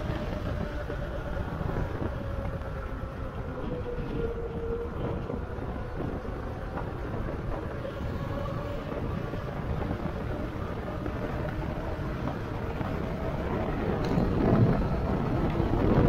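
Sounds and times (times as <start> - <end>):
bike tyre noise on road: 0.0 - 16.0
wind rushing over microphone: 0.0 - 16.0.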